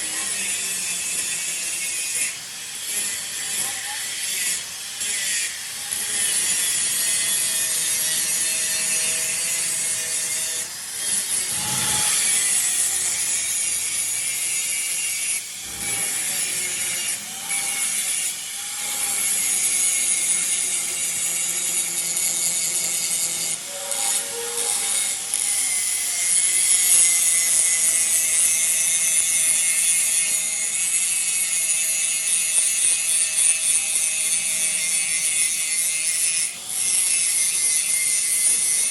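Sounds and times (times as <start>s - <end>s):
power tool grinding metal: 0.0s - 38.9s.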